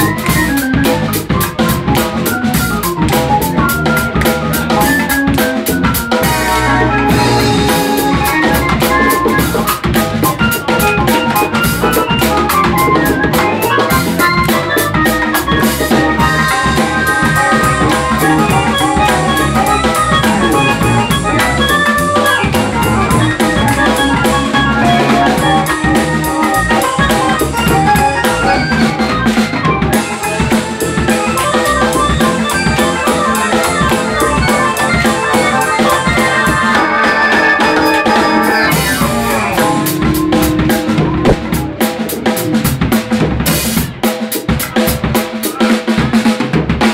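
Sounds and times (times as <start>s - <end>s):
bass lead sounding like guitar: 0.0s - 45.1s
funk band playing a groove: 0.0s - 46.9s.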